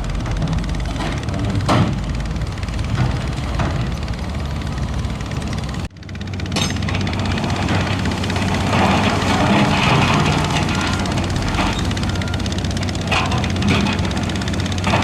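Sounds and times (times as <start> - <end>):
heavy diesel machine engine running: 0.0 - 15.0.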